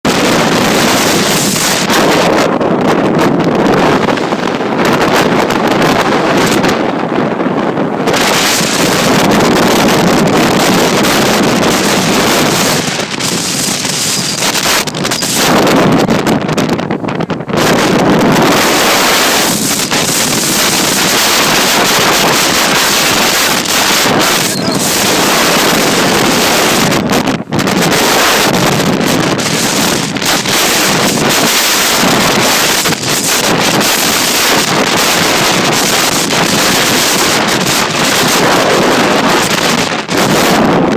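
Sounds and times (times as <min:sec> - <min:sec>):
high wind blowing across microphone: 0:00.0 - 0:40.9.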